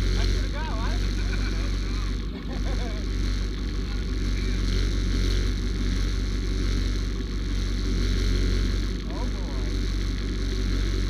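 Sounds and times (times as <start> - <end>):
utility vehicle engine droning: 0.0 - 11.0.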